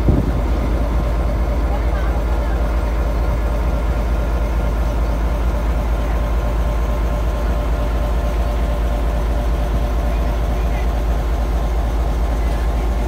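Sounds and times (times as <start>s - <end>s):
diesel locomotive engine throbbing: 0.0s - 13.0s.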